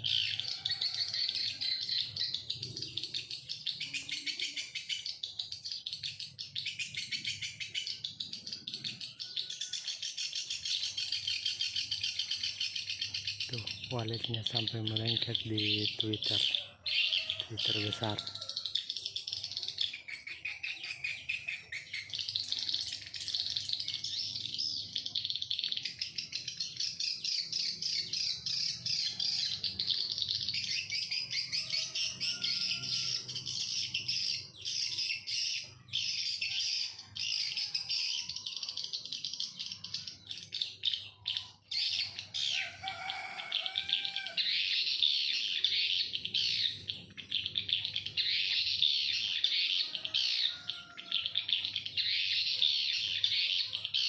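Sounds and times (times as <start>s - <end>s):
lower squeaky bird calls: 0.0s - 54.0s.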